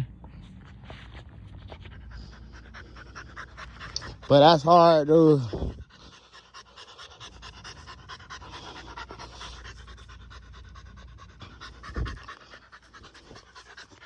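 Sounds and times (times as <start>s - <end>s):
dog panting rapidly: 1.3s - 14.0s.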